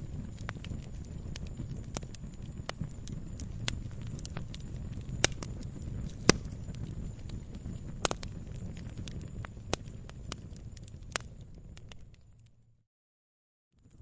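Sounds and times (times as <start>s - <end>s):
firewood crackling and popping: 0.0s - 12.7s, 13.8s - 14.0s
low rumble of flames: 0.0s - 12.8s, 13.8s - 14.0s.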